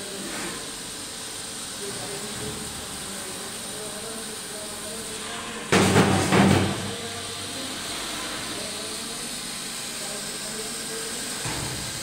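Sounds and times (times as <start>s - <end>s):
refrigeration machinery humming: 0.0s - 12.0s.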